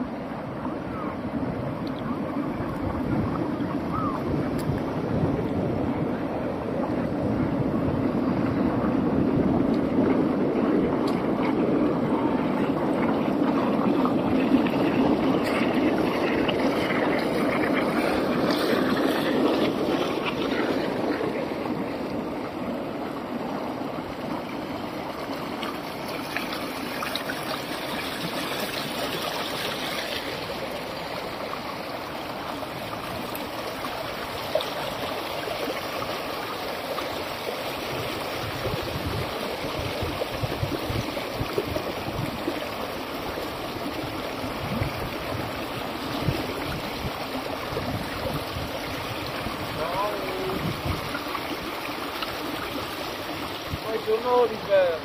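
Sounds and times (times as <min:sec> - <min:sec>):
water rushing and rippling: 0:00.0 - 0:55.0.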